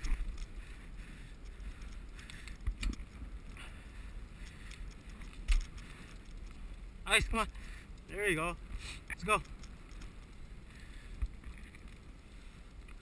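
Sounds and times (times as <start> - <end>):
bicycle tyres rumbling: 0.0 - 13.0.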